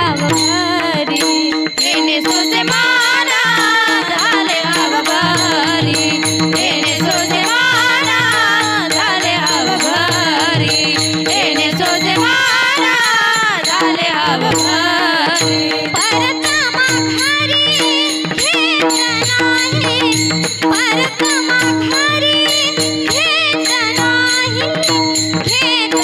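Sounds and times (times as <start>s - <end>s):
rhythmic drum: 0.0s - 26.0s
woman singing devotional melody: 0.0s - 26.0s.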